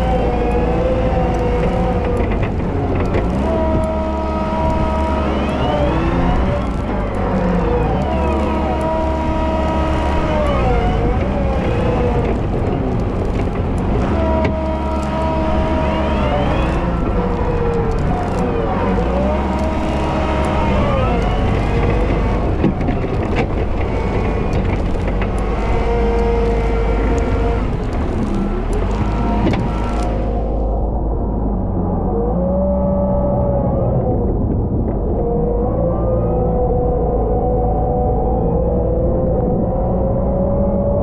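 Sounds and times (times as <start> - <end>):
wheel loader engine drone: 0.0 - 41.0
whining tones: 0.0 - 41.0.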